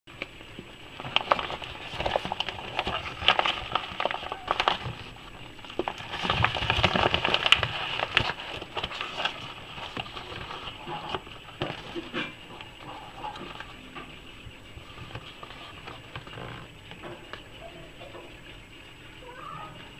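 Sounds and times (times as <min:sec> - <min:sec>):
padded envelope crinkling: 0:00.8 - 0:17.5.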